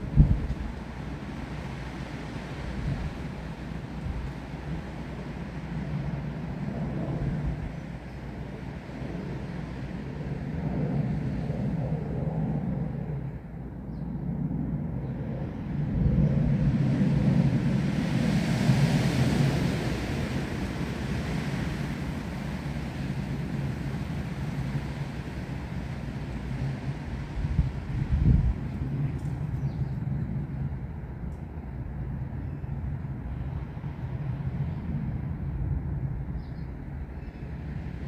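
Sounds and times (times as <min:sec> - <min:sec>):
gusty wind through trees: 0:00.0 - 0:38.0.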